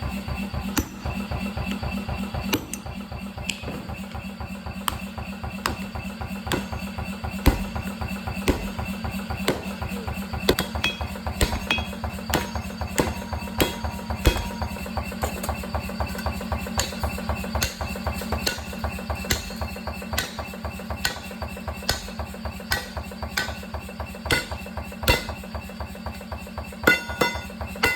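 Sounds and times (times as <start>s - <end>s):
hammer striking metal on anvil: 0.6s - 3.7s, 4.8s - 25.5s, 26.8s - 27.9s.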